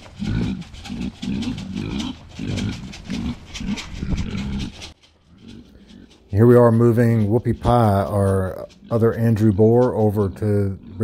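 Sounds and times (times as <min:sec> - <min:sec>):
pig grunting: 0:00.0 - 0:11.0.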